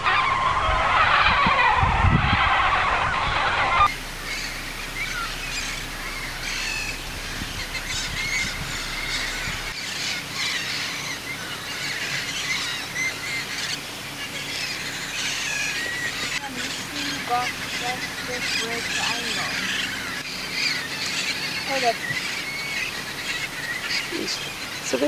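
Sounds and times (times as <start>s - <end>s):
juvenile parrots begging calls: 0.0s - 25.0s
parrots calling: 0.0s - 25.0s.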